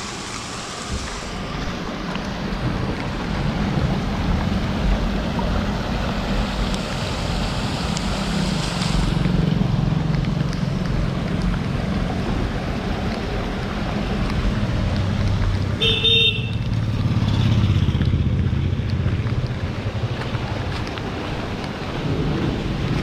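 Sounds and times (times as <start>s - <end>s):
low rumble of road traffic: 0.0s - 23.0s
rain: 0.0s - 23.0s.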